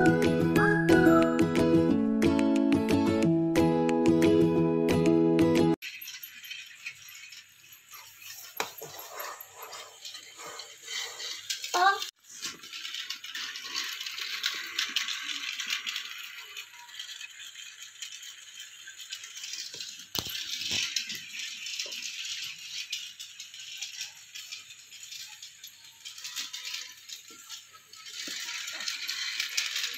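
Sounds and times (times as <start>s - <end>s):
toy train rattling on track: 0.0s - 1.4s, 5.7s - 29.9s.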